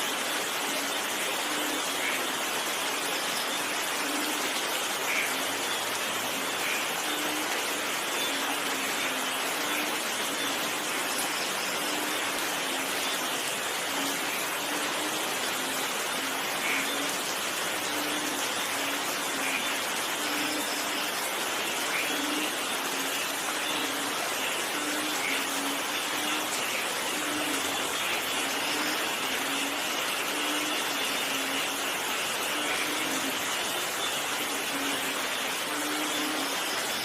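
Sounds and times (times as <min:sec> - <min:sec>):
heavy rainfall: 0:00.0 - 0:37.0.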